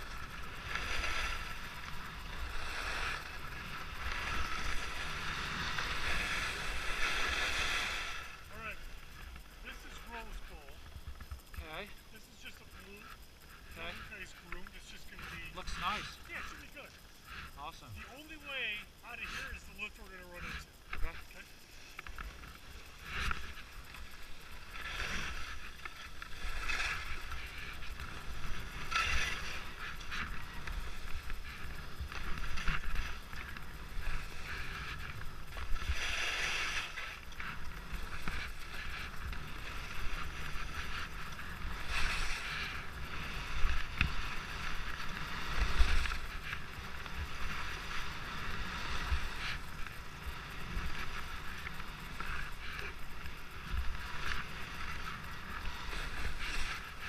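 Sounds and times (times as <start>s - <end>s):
skis scraping on snow: 0.0s - 57.0s.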